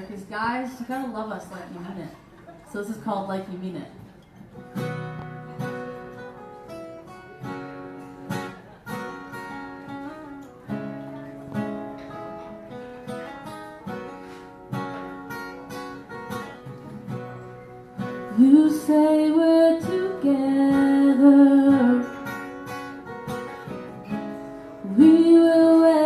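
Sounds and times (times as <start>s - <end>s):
acoustic guitar strumming chords: 4.3s - 26.0s.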